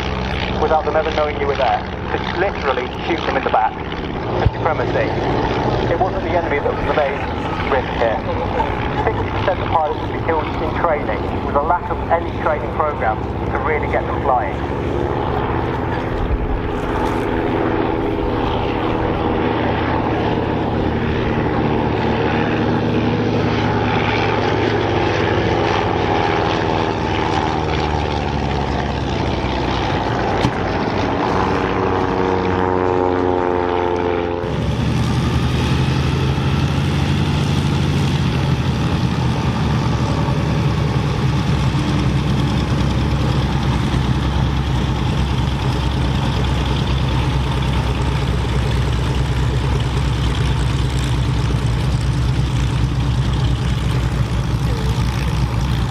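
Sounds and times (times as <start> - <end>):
piston aircraft engines running: 0.0 - 55.9
propeller aircraft flying past: 0.0 - 55.9.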